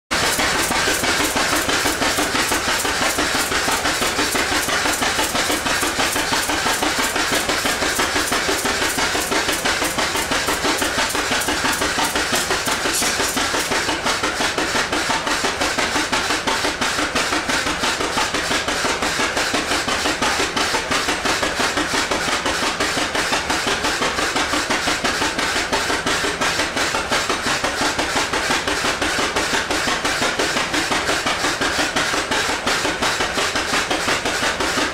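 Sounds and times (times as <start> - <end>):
tractor engine running hard: 0.1 - 34.9.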